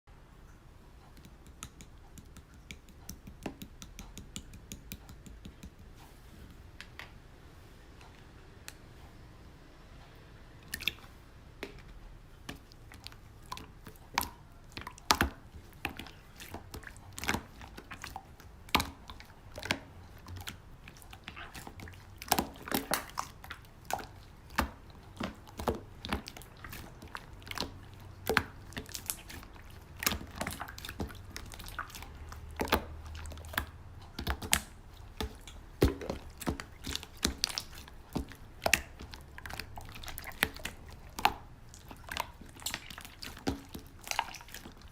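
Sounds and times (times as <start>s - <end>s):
slime squishing with clicks: 0.4s - 7.2s, 7.9s - 9.3s, 9.9s - 44.9s.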